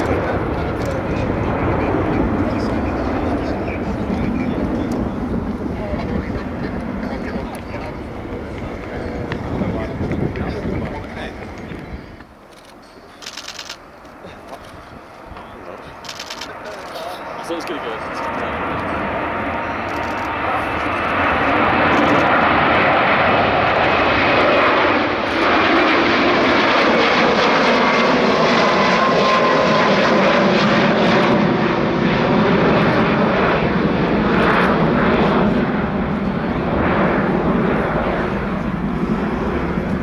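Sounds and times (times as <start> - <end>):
jet engine taking off: 0.0 - 40.0.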